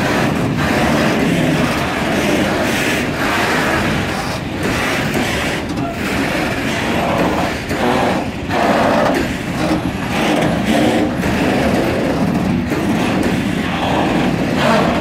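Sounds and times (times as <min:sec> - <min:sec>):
freight wagon wheels rumbling on rails: 0:00.0 - 0:15.0.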